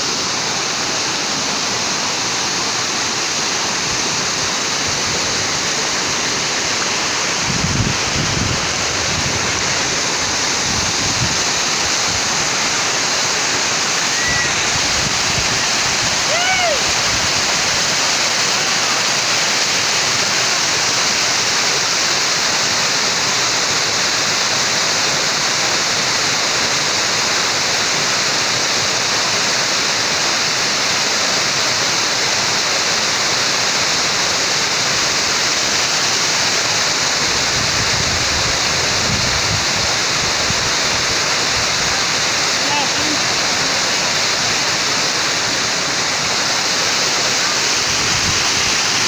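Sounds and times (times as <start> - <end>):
waterfall rushing: 0.0 - 49.0.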